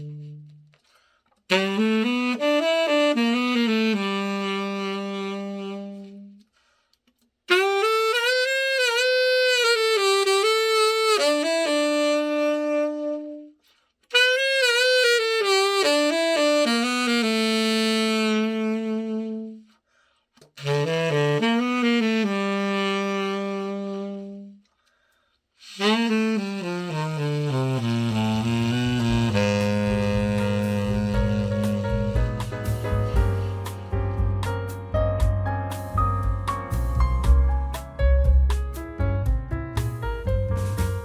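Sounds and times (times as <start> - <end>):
tenor saxophone playing: 0.0 - 6.7, 7.5 - 19.8, 20.4 - 38.6.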